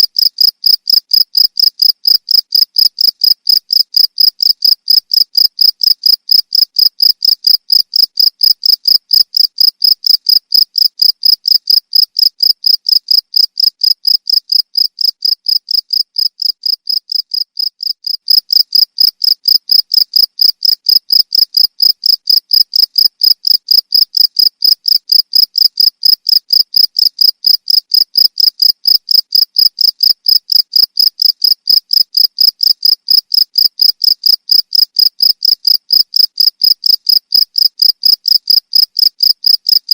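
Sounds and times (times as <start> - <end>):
cricket chirping: 0.1 - 39.8.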